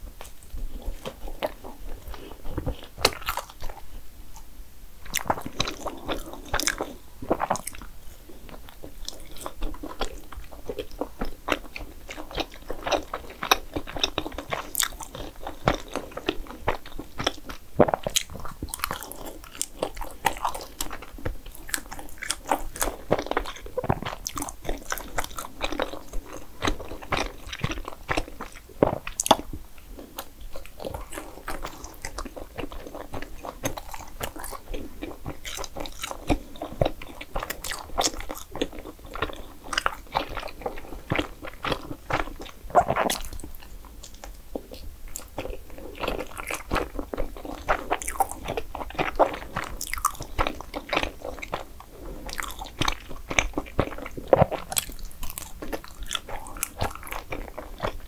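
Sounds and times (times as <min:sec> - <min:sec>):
chewing: 0:00.1 - 0:58.0.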